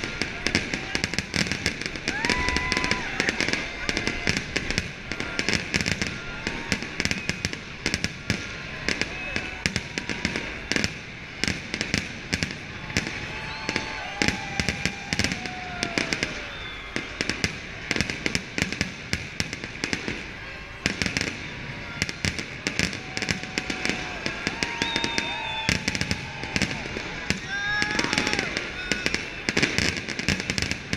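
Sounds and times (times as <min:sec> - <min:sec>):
falling whistling fireworks: 0:00.0 - 0:30.9
fireworks bangs and crackles: 0:00.0 - 0:30.9.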